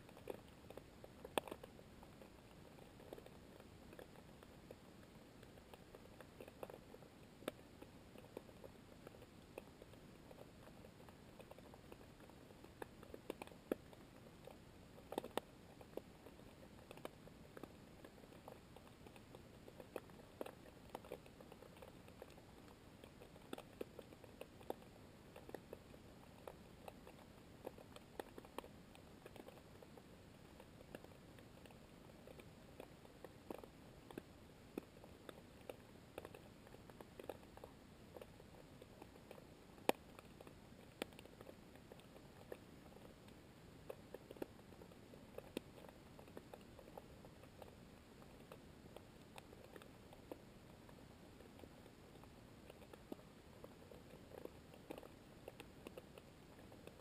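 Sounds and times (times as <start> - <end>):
small clicks and crackles: 0.0 - 57.0.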